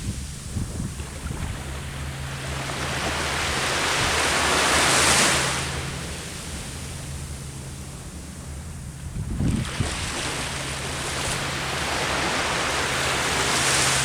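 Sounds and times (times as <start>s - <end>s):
sea waves washing onto shore: 0.0s - 8.0s, 9.2s - 14.0s.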